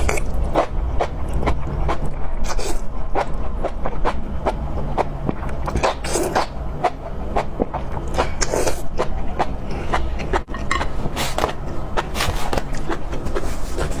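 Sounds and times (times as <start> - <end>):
person chewing and smacking: 0.0 - 14.0
steady low hum: 0.0 - 14.0.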